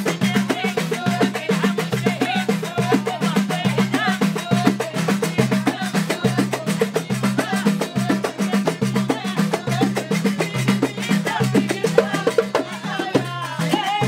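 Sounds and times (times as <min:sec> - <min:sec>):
hand drums: 0:00.0 - 0:14.0
women singing together: 0:00.0 - 0:14.0.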